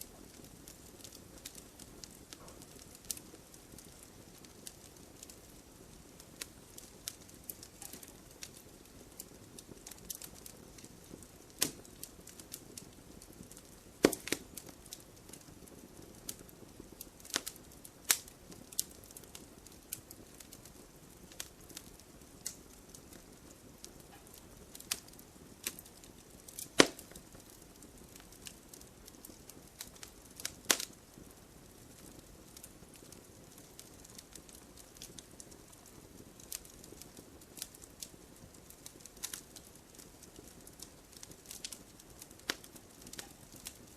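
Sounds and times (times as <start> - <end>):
low steady hiss: 0.0 - 43.9
wood fire crackling: 0.0 - 43.9.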